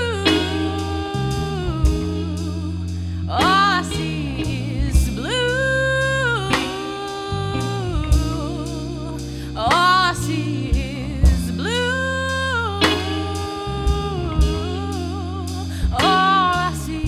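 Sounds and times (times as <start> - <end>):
electric bass: 0.0 - 17.0
guitar: 0.0 - 17.0
woman singing: 0.0 - 17.0.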